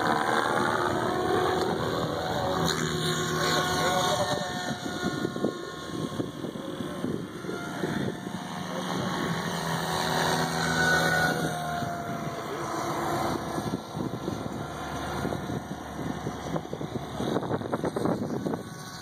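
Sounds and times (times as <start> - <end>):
electric motor whine: 0.0 - 19.0
rotor blades rushing: 0.0 - 19.0.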